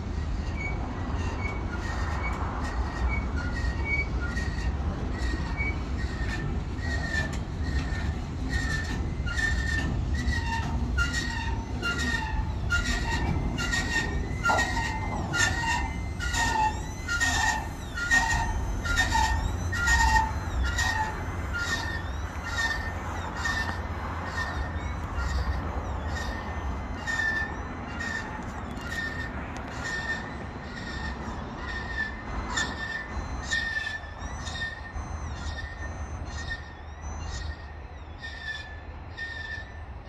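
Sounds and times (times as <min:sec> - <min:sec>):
freight train rumbling past: 0:00.0 - 0:40.0
train wheels squealing and clicking: 0:00.0 - 0:40.0.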